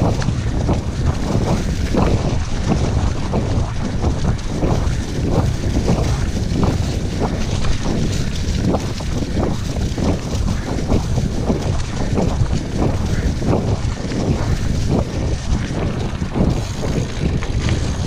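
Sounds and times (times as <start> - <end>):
bike knocking and rattling: 0.0 - 18.0
bike tyres rolling on dirt: 0.0 - 18.0
wind buffeting microphone: 0.0 - 18.0.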